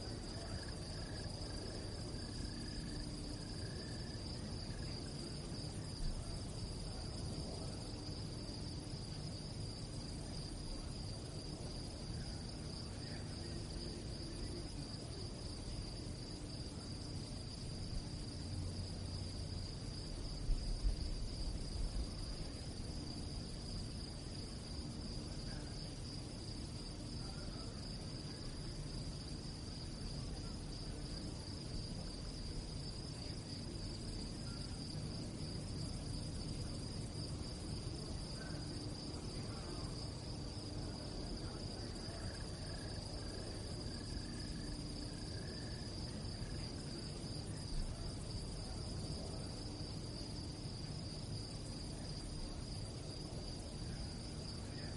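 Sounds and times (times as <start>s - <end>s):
crickets trilling: 0.0s - 54.9s
low background hum: 0.0s - 54.9s.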